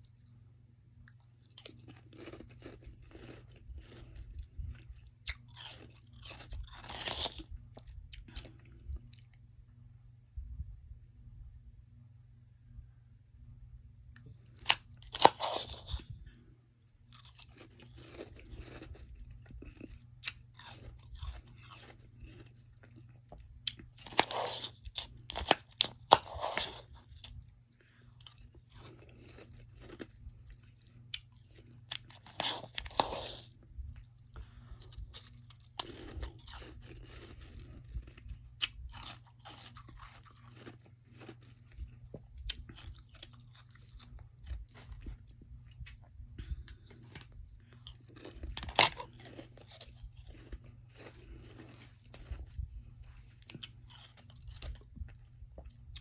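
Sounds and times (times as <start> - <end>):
soft wet chewing: 1.0 - 9.5, 14.1 - 56.0.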